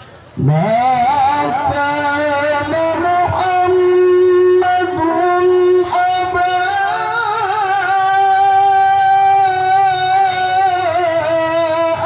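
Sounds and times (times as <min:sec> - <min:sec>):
man reciting melodically: 0:00.3 - 0:12.0.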